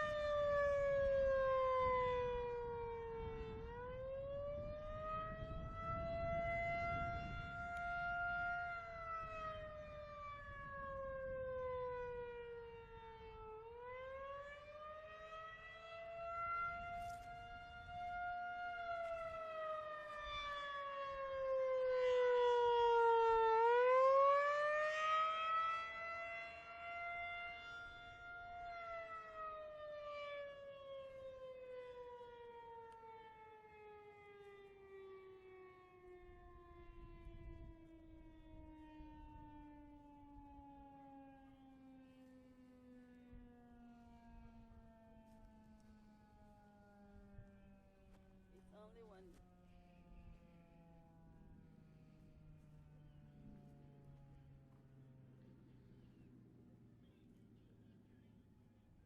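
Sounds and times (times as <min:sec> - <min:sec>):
warning siren wailing: 0:00.0 - 0:59.0.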